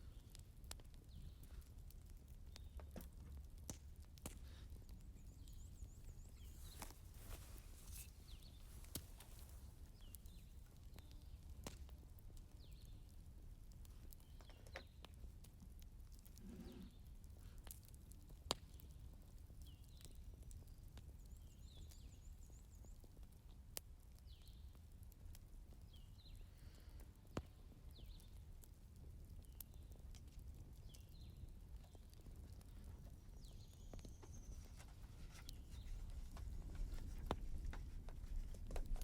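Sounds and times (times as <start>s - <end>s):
fire popping: 0.0s - 39.0s
wood fire crackling: 0.0s - 39.0s.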